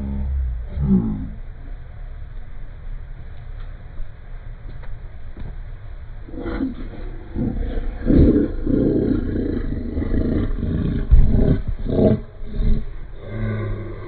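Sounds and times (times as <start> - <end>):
deep slowed-down rumbling: 0.0 - 14.0.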